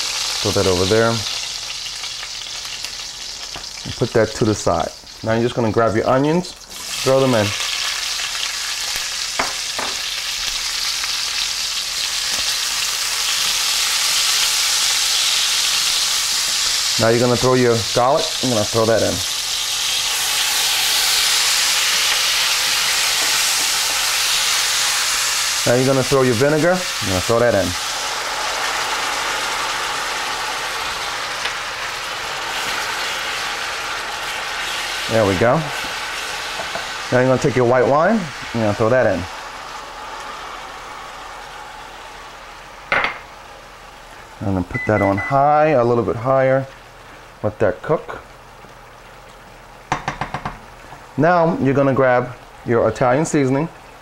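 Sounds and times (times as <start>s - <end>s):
onions sizzling in a pan: 0.0s - 54.0s.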